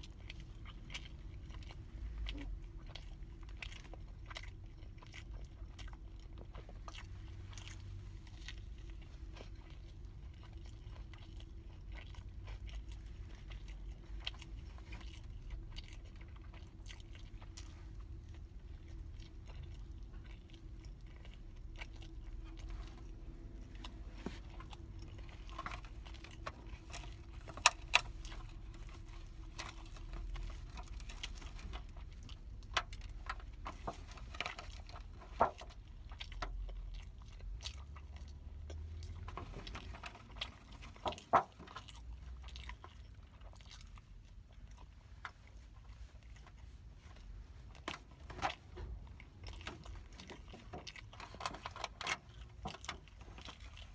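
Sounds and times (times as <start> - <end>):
low steady rumble: 0.0 - 53.9
person chewing bread: 0.0 - 53.9.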